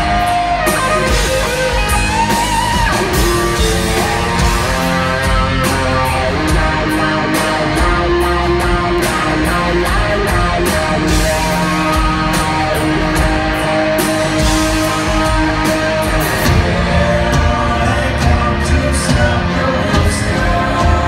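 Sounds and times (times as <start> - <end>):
distorted electric guitar riff: 0.0 - 21.0
drums: 0.0 - 21.0.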